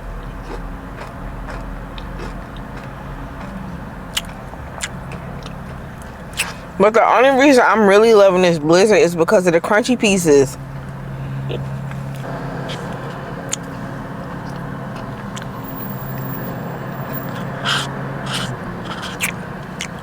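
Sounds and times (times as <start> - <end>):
low motor hum: 0.0 - 7.2, 8.0 - 20.0.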